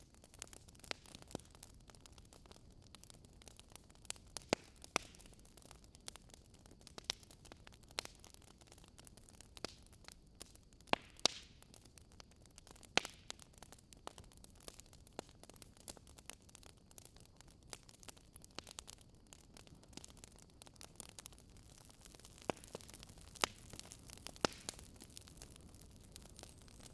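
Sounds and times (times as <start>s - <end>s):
bonfire crackling and popping: 0.0s - 26.9s
faint steady hiss: 0.0s - 26.9s.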